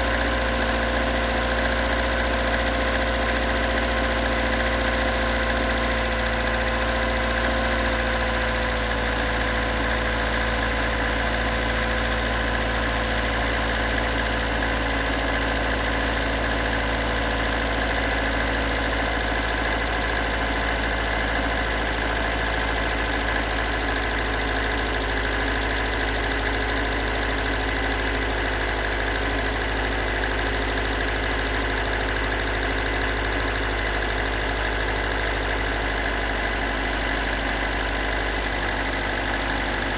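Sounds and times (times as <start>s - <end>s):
car engine idling roughly: 0.0s - 39.9s
engine knocking: 0.0s - 39.9s.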